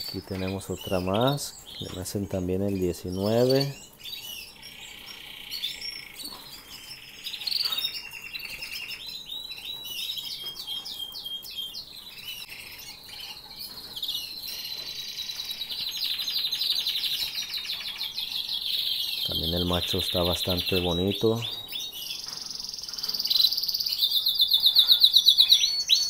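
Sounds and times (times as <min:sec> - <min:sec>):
canaries singing trills: 0:00.0 - 0:26.0.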